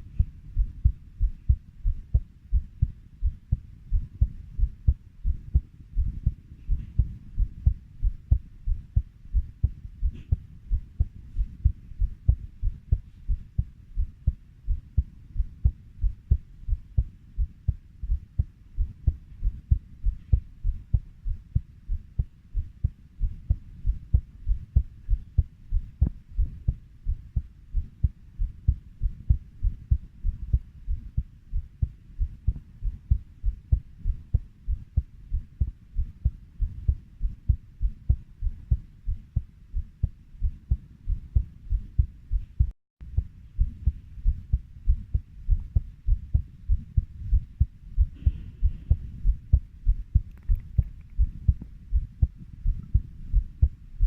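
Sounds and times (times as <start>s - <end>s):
heartbeat thuds: 0.0s - 54.0s.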